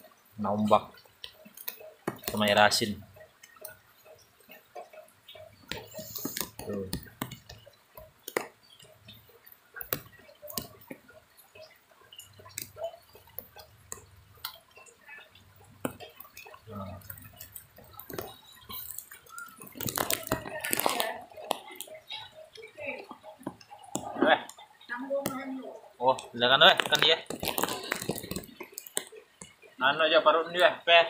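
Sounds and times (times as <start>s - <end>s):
water dripping and splashing: 0.0s - 31.0s.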